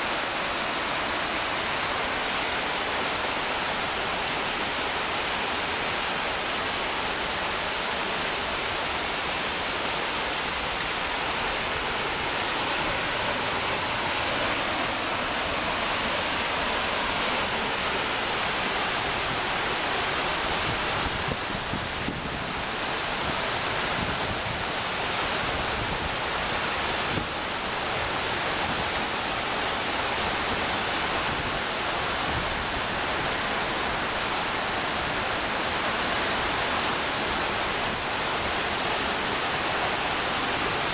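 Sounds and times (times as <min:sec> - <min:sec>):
waterfall rushing over boulders: 0:00.0 - 0:40.9.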